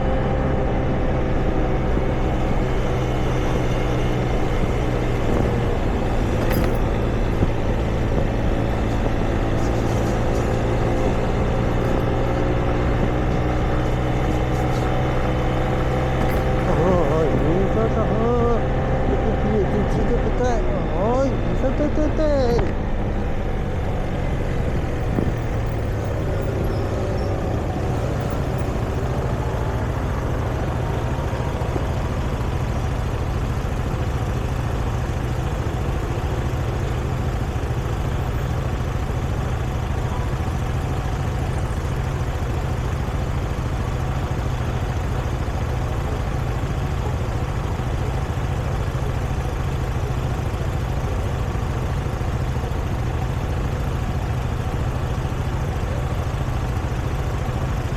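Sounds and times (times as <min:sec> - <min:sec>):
gliding engine tone: 0:00.0 - 0:57.9
street traffic rumble: 0:00.0 - 0:57.9.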